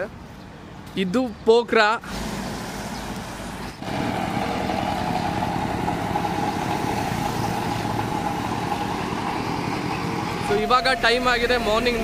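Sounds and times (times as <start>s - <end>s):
street traffic noise: 0.0s - 12.0s
vehicle engine running: 2.1s - 12.0s.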